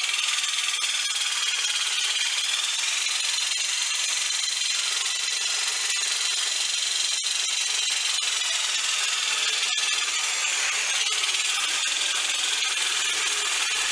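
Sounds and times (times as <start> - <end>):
jigsaw cutting sheet metal: 0.0 - 13.9.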